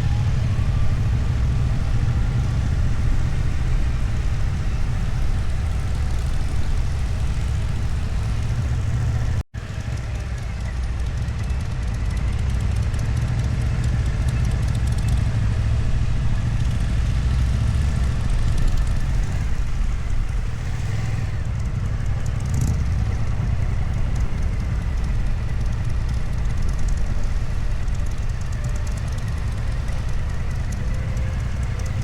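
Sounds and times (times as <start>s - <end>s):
motorcycle engine running: 0.0s - 32.0s
road and wind noise: 0.0s - 32.0s.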